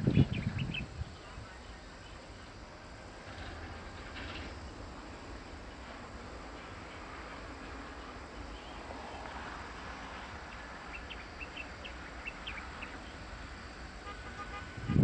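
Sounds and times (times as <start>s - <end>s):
open-air background noise: 0.0s - 15.0s.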